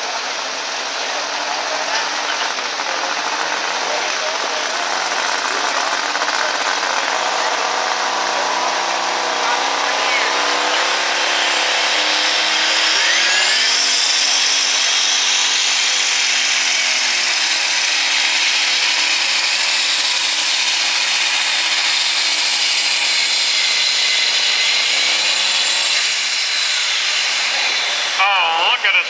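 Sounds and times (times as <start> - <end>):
tractor engine screaming at full throttle: 0.0 - 29.0.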